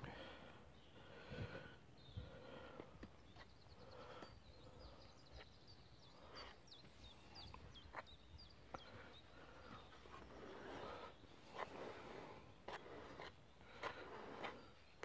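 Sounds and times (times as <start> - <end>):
small bird chirping: 2.0 - 15.0.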